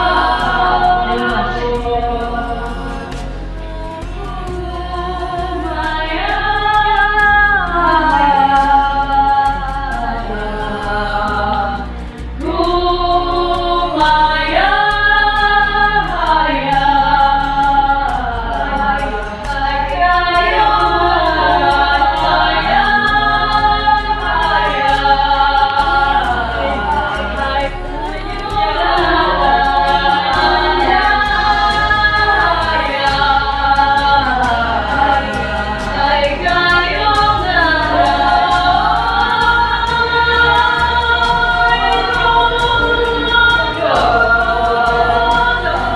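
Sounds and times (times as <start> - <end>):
group singing folk chant: 0.0 - 45.9.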